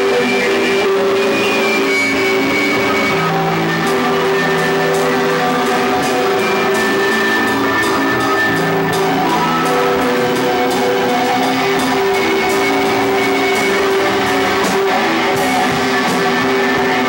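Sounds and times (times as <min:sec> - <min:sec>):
drums with cymbal strikes: 0:00.0 - 0:17.0
electric guitar chords: 0:00.0 - 0:17.0.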